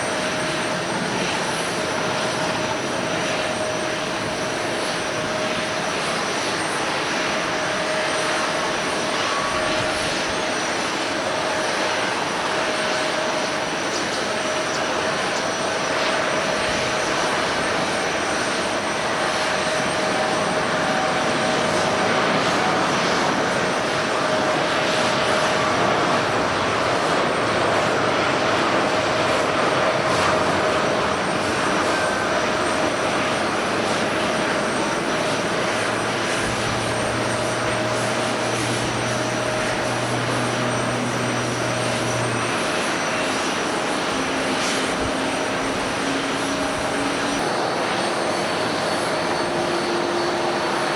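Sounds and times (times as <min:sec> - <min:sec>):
jet engines roaring: 0:00.0 - 0:50.9.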